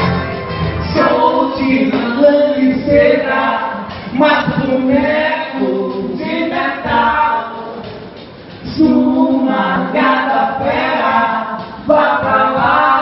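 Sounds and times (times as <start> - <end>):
voices singing together: 0.8 - 13.0.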